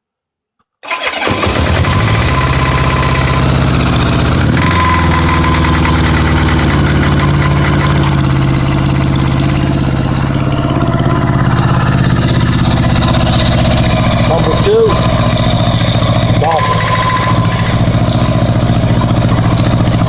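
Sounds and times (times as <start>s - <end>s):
engine rattle: 0.9s - 20.0s
motorcycle engine idling: 1.2s - 20.0s.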